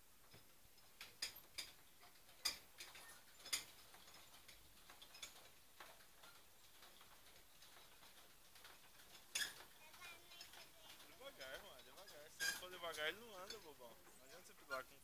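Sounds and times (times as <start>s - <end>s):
faint clicks and ticks: 0.2s - 15.0s.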